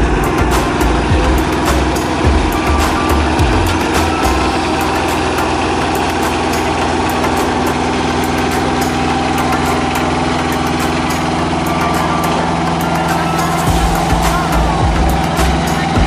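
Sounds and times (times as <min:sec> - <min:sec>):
harvester engine running: 0:00.0 - 0:16.0.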